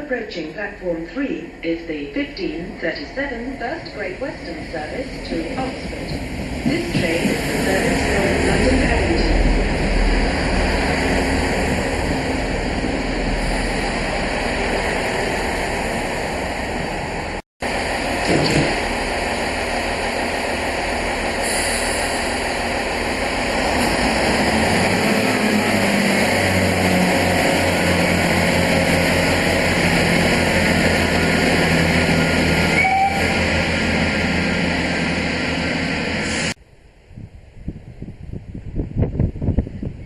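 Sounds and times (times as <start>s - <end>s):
diesel train rumbling past: 1.0s - 40.0s.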